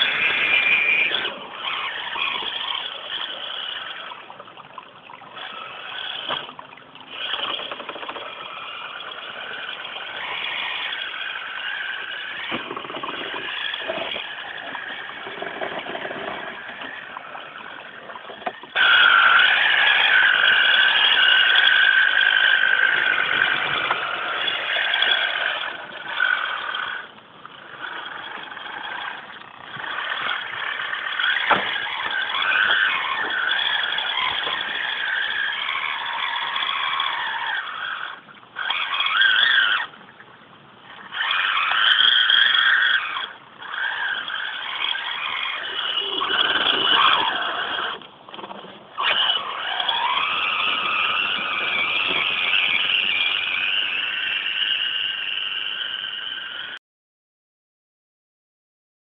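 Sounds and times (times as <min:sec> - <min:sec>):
electric motor and gearbox whining: 0:00.0 - 0:40.2, 0:40.8 - 0:56.8.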